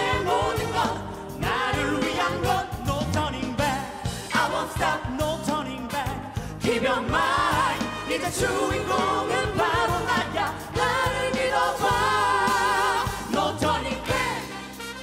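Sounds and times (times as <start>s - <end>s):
band with drums and bass: 0.0s - 15.0s
vocalists singing together: 0.0s - 15.0s.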